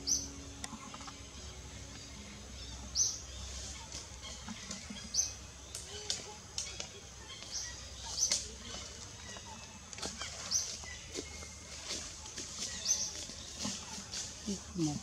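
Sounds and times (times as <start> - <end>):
birds chirping: 0.0 - 15.0
faint outdoor ambience: 0.0 - 15.0.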